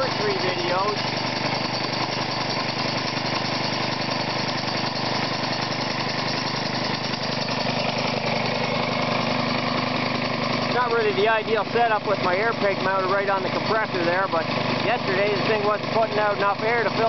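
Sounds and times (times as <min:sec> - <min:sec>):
air compressor pumping: 0:00.0 - 0:17.0
lawnmower engine running: 0:00.0 - 0:17.0.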